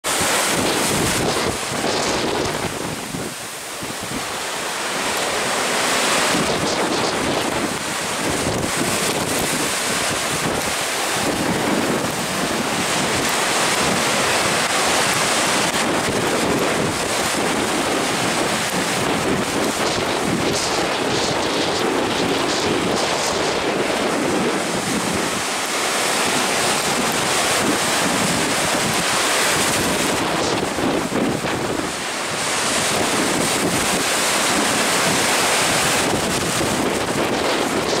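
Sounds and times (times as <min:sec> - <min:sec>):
heavy surf breaking: 0:00.0 - 0:38.0
wind buffeting microphone: 0:00.1 - 0:04.4, 0:05.8 - 0:38.0.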